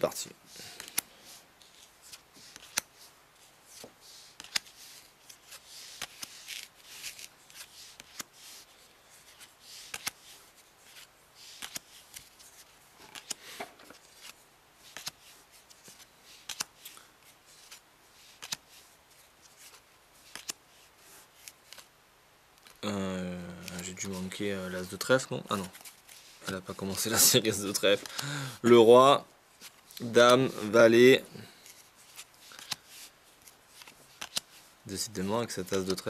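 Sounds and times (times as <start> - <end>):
playing card rustling: 0.6 - 21.9, 22.6 - 22.9, 23.5 - 36.0.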